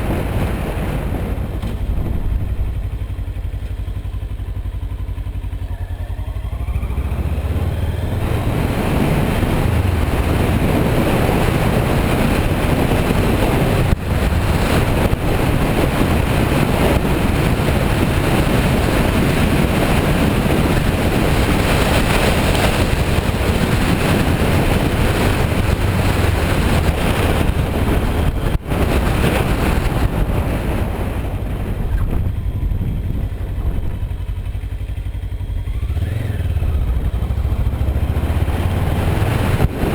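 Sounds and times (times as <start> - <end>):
wind noise on microphone: 0.0 - 3.3, 6.5 - 39.9
motorcycle engine running: 0.0 - 39.9.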